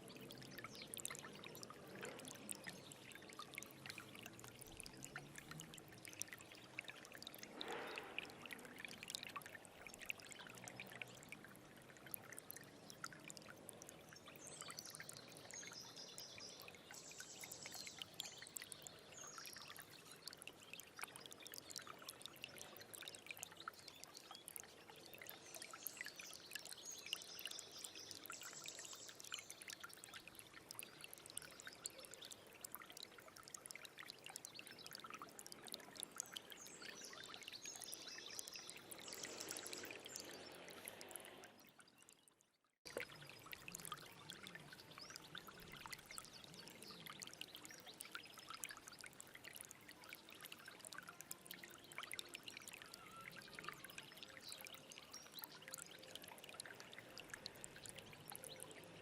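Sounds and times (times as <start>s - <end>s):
stream trickling and gurgling: 0.0s - 59.0s.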